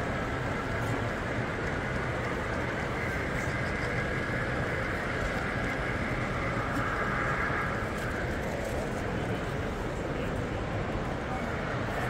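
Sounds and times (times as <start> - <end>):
crowded hall background din: 0.0 - 12.0.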